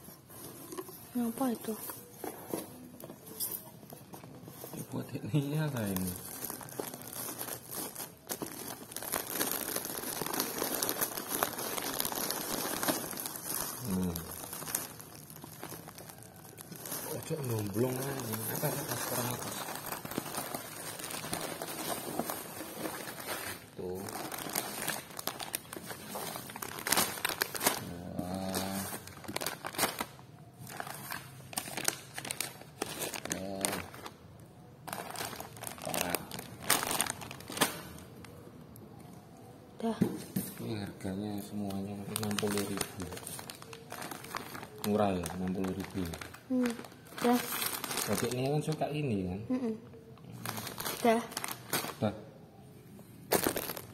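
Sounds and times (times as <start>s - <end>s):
plastic shrink-wrap crinkling: 0.0s - 38.4s, 40.6s - 49.2s, 50.2s - 52.1s, 53.2s - 53.9s.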